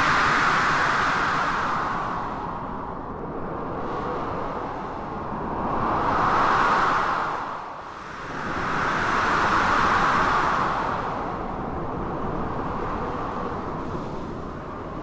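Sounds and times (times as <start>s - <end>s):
blizzard wind: 0.0s - 15.0s.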